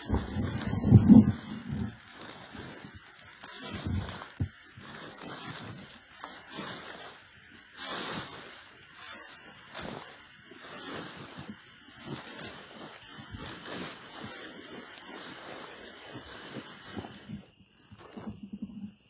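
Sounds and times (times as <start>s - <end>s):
footsteps swishing through grass: 0.0s - 18.4s.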